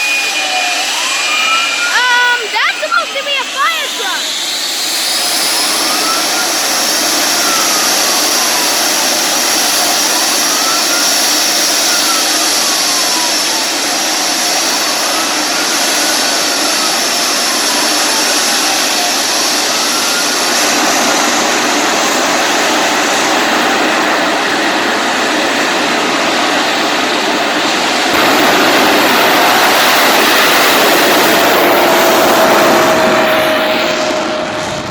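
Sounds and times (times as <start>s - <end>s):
turbine engine whining: 0.0s - 34.9s.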